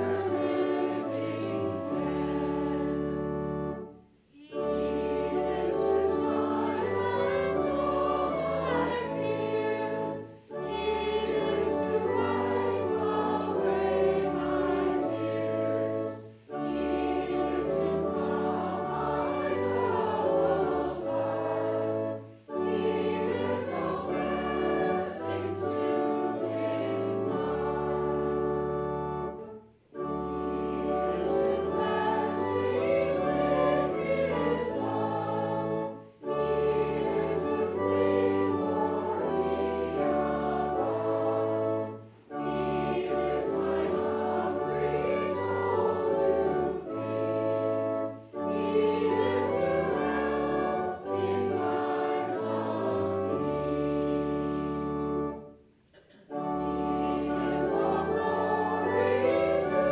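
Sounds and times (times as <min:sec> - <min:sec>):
voices singing a hymn: 0:00.0 - 0:59.9.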